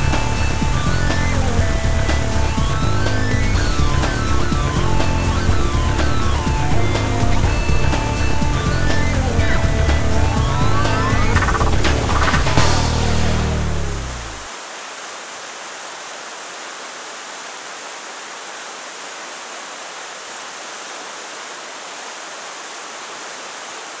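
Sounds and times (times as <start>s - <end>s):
white water rushing: 0.0s - 24.0s.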